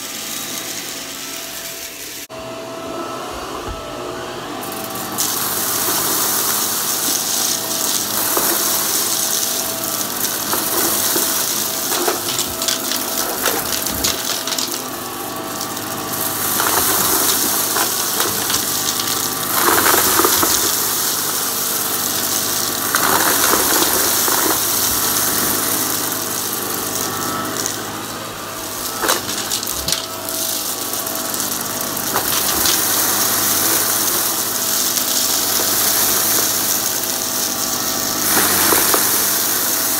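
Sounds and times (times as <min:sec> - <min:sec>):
vacuum cleaner running on carpet: 0:00.0 - 0:39.9
debris crackling in vacuum: 0:04.6 - 0:39.9.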